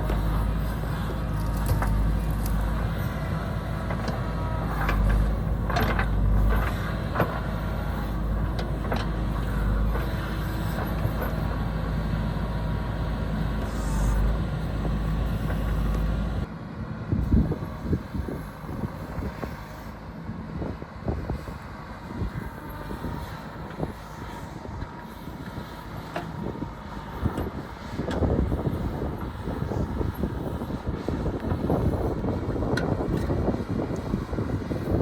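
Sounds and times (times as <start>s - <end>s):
heavy machine engine running: 0.0s - 35.0s.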